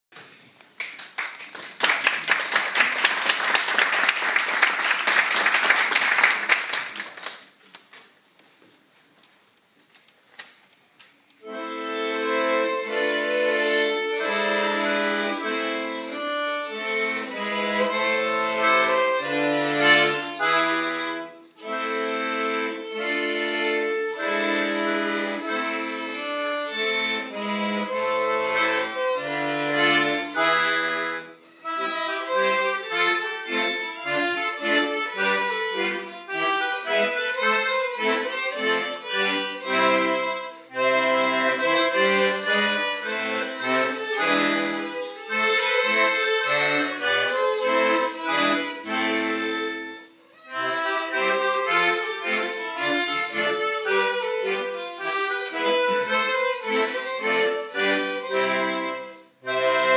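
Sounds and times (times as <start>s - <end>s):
accordion violin and recorder playing: 11.4s - 59.9s.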